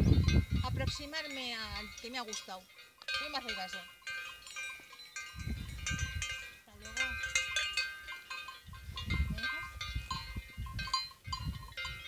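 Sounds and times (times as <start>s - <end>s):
metal livestock bells clanking: 0.0s - 12.0s.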